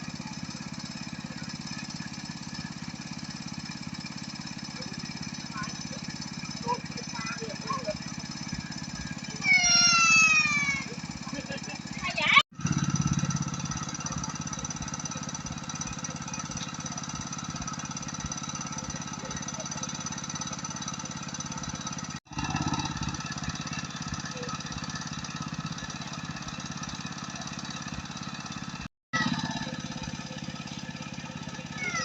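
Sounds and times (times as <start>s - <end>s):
small engine running: 0.0s - 32.0s.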